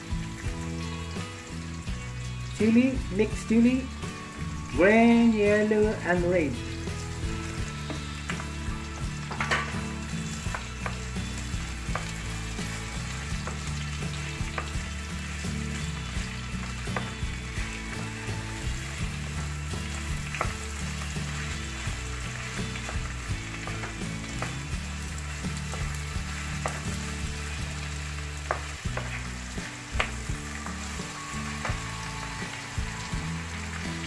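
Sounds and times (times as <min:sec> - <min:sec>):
vegetables sizzling in a wok: 0:00.0 - 0:34.0.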